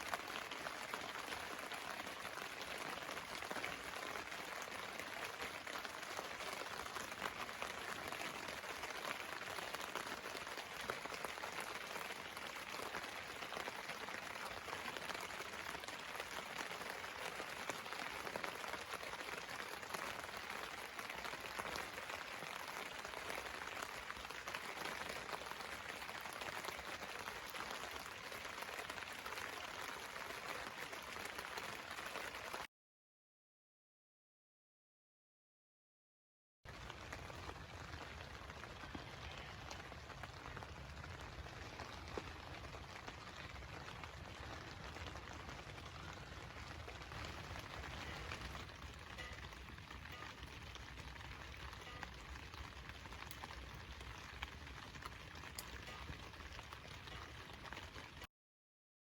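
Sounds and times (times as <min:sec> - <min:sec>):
rain pattering on a tarp: 0:00.0 - 0:32.7, 0:36.7 - 0:58.3.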